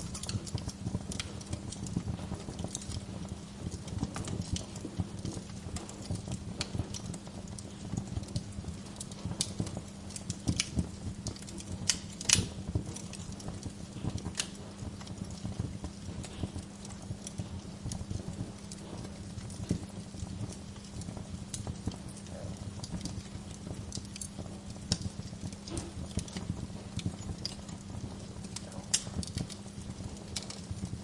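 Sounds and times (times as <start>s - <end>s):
logs crackling and popping: 0.0s - 31.0s
low rumble of flames: 0.0s - 31.0s.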